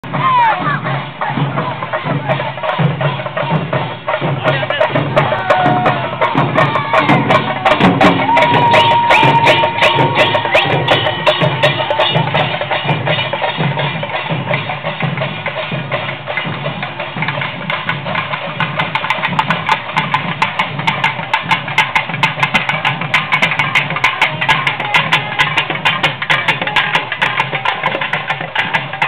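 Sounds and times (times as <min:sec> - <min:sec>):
drummers beating barrel drums: 0:00.0 - 0:29.0.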